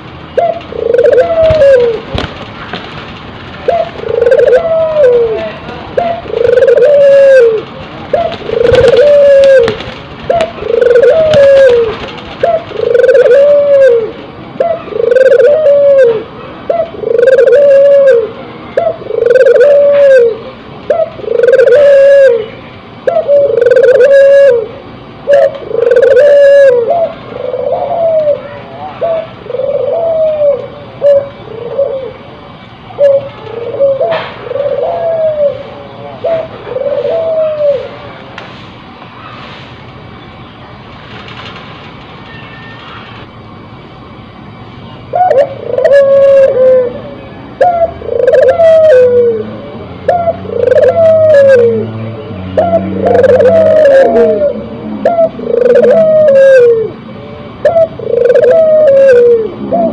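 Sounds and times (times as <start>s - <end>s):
dove cooing: 0.3s - 2.4s, 3.6s - 38.2s, 45.1s - 59.9s.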